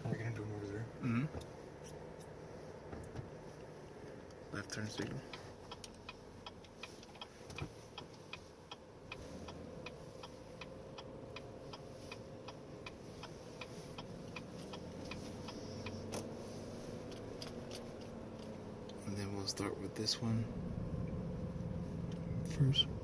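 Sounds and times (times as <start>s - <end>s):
faint steady hum: 0.0s - 23.0s
turn signal flasher clicking: 1.4s - 19.7s, 20.9s - 23.0s.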